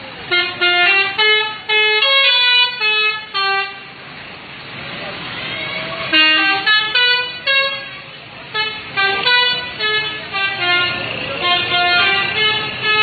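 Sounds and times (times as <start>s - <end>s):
bus musical horn: 0.2s - 4.0s, 6.1s - 13.0s.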